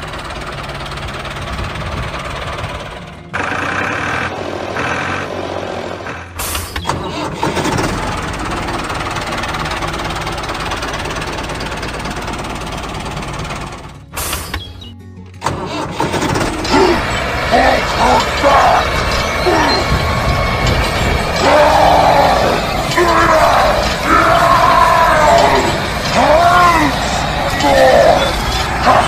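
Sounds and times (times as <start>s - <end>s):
tractor engine idling and knocking: 0.0s - 29.0s.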